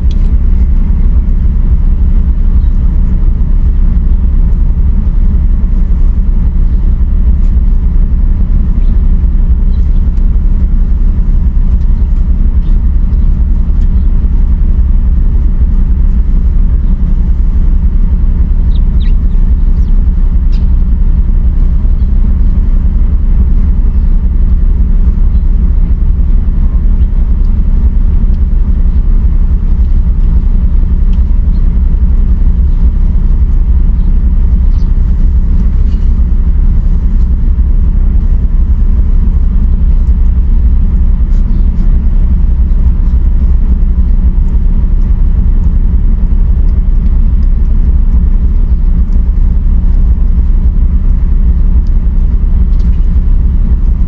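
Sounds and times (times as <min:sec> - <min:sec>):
loud steady low rumble: 0:00.0 - 0:54.0.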